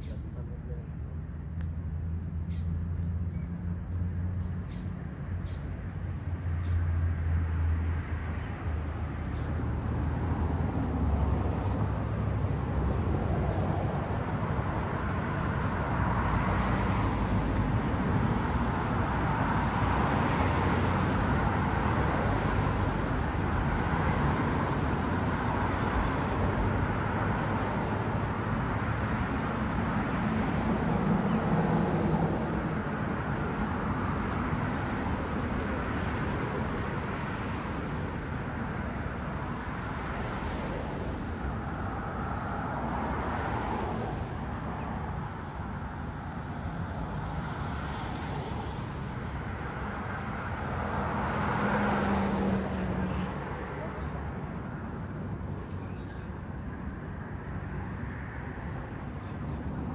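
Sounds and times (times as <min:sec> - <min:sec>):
cars driving past: 0:00.0 - 0:59.9.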